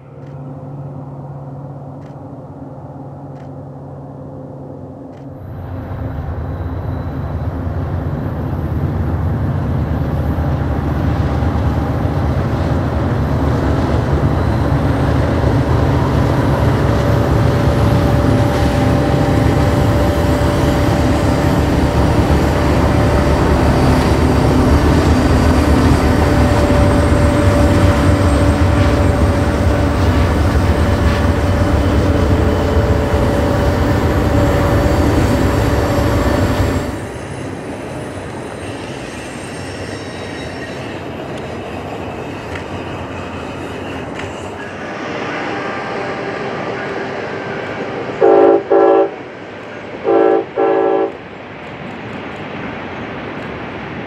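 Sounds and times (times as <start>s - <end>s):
diesel locomotive engine rumble: 0.0s - 54.0s
locomotive whine: 0.0s - 54.0s.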